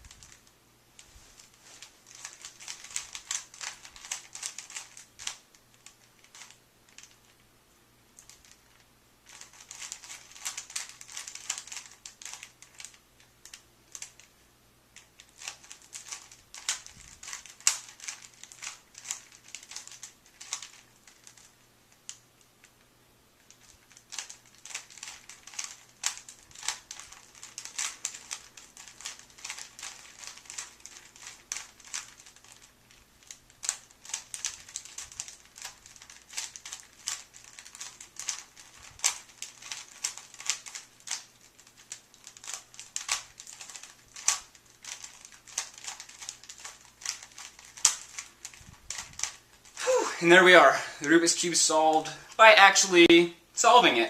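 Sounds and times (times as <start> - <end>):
puzzle cube clicking as turned: 2.1 - 7.4, 8.2 - 14.3, 15.0 - 22.2, 23.4 - 49.8.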